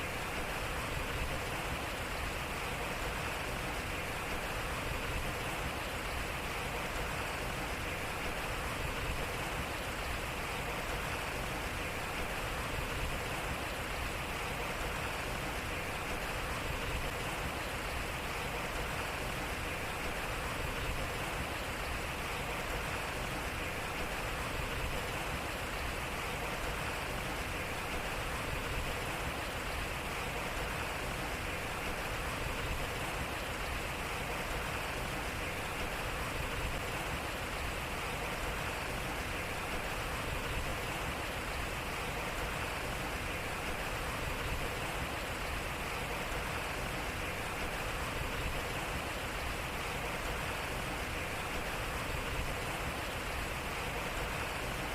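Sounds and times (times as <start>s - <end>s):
water splashing at water wheel: 0.0s - 54.9s.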